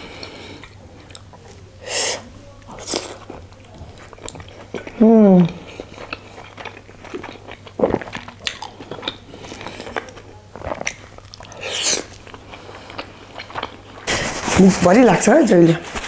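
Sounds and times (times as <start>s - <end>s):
wet chewing mouth sounds: 0.2s - 1.5s, 2.7s - 14.4s.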